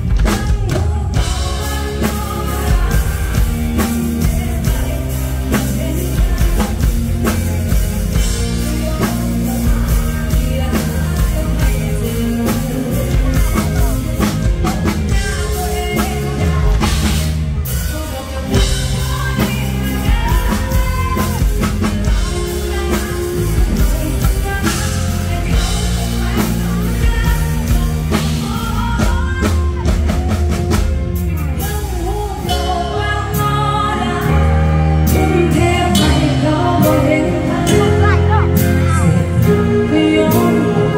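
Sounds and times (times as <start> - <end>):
band playing: 0.0 - 40.9
drum kit beat: 0.0 - 40.9
woman singing: 0.0 - 40.9.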